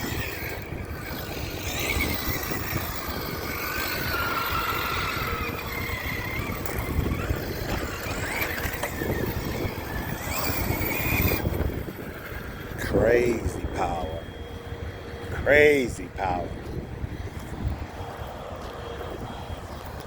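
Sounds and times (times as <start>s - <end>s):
electric motor whine: 0.0s - 20.0s
tyres rumbling on rough ground: 0.0s - 20.0s
wind: 0.0s - 20.0s.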